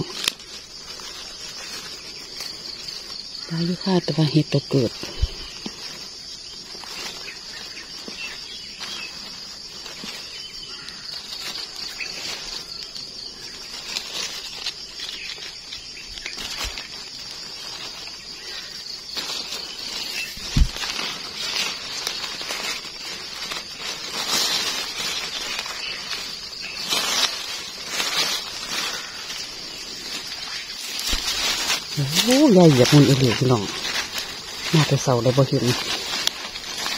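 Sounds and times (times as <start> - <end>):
dry leaf litter rustling: 0.0 - 36.9
high insect chorus: 0.0 - 36.9.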